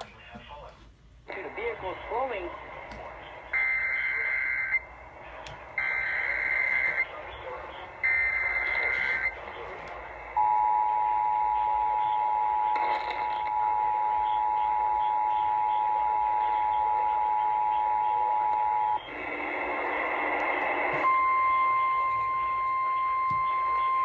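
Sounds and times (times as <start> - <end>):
radio static: 0.0 - 21.1.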